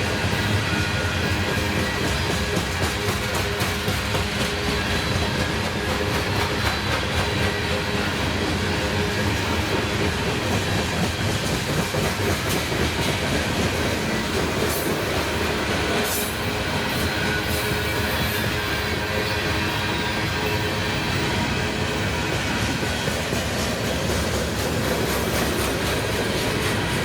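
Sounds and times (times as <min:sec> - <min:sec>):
freight train rumble: 0:00.0 - 0:27.0
train wheels clicking over rail joints: 0:00.0 - 0:27.0.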